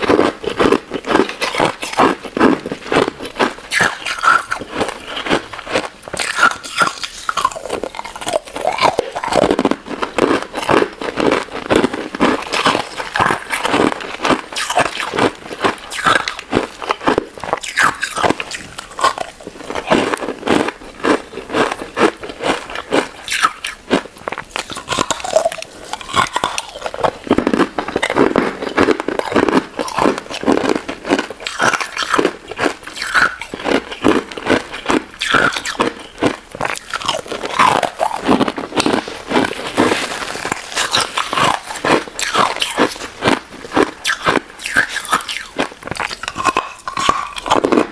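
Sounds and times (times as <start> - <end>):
crunchy ice dessert chewing: 0.0 - 47.9.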